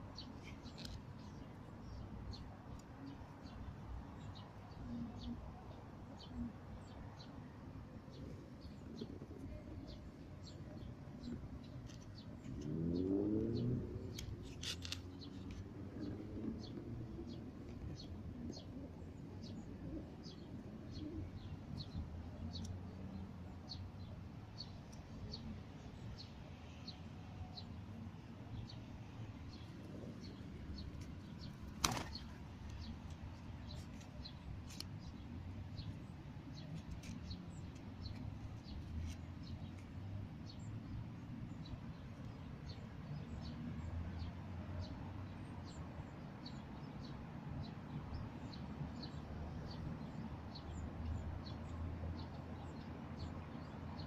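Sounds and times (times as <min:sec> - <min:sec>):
small birds ticking and chirping: 0:00.0 - 0:07.4, 0:08.0 - 0:54.0.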